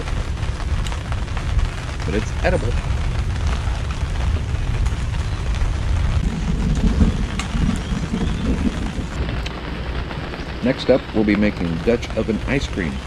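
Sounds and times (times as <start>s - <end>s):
low rumble: 0.0s - 13.0s
rain pattering on a canopy: 0.0s - 13.0s.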